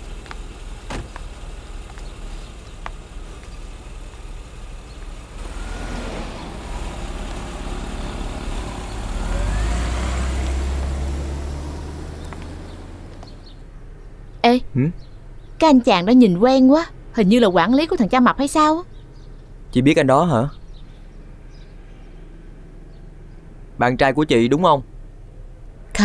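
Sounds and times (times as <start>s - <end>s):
vehicle engine rumble passing: 0.0s - 26.0s.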